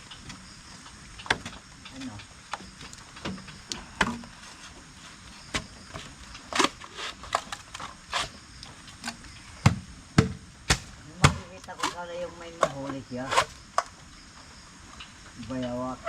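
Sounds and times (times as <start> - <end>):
sharp knocks and cracks: 0.0 - 4.4, 5.0 - 12.0, 12.6 - 14.0
low hiss: 0.0 - 16.0.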